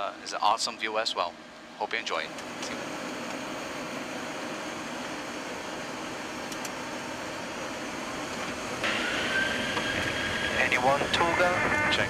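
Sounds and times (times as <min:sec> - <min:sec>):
aircraft cockpit hiss and hum: 0:00.0 - 0:12.0.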